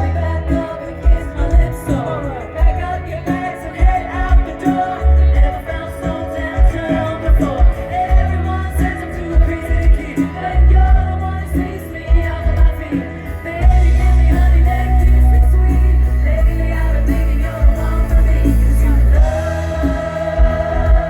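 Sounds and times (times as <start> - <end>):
live pop band: 0.0 - 21.0
woman singing lead: 0.0 - 21.0
heavy kick drum beat: 0.8 - 1.9, 2.6 - 21.0.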